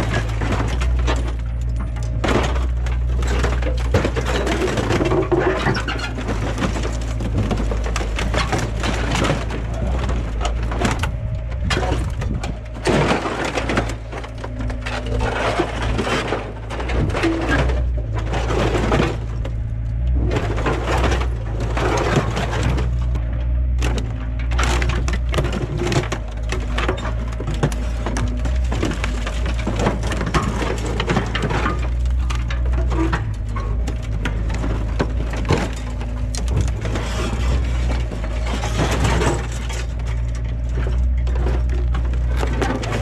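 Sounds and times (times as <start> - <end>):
excavator engine running: 0.0 - 43.0
sheet metal crunching and tearing: 0.0 - 43.0.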